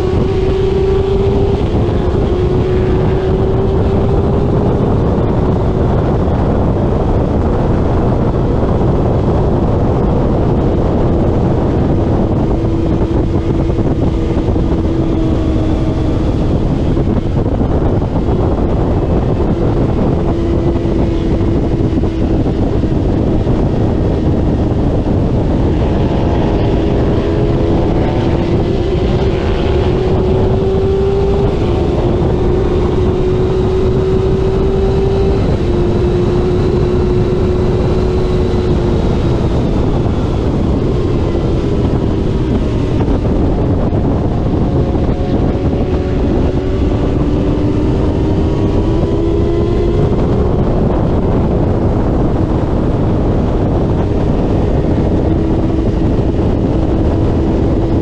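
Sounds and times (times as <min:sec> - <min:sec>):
motorcycle engine at full throttle: 0:00.0 - 0:58.0
wind noise on microphone: 0:00.0 - 0:58.0.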